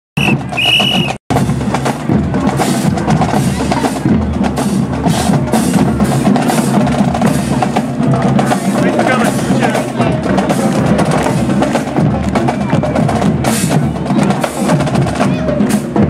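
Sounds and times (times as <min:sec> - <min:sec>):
marching drum line: 0:00.2 - 0:16.0.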